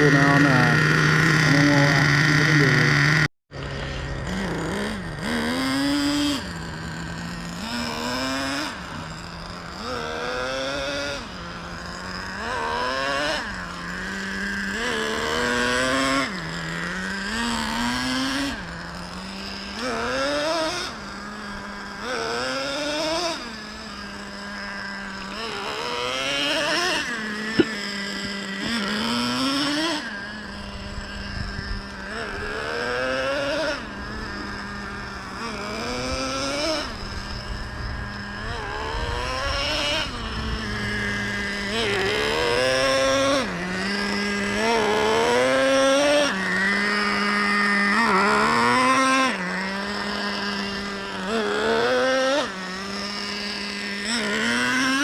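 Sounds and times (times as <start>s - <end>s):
nitro engine revving: 0.0s - 55.0s.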